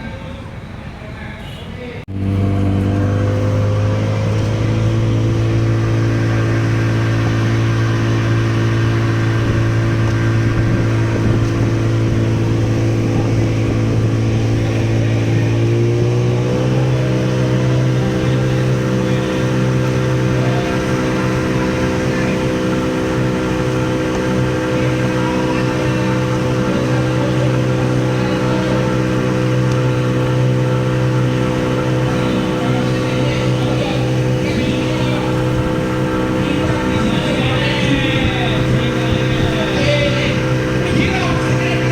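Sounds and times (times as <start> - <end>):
boat engine running: 2.1 - 41.9.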